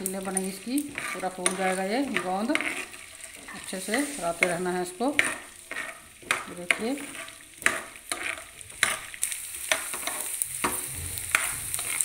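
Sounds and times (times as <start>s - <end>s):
gum sizzling in hot fat: 0.0s - 12.0s
spoon scraping and tapping pan: 0.0s - 12.0s.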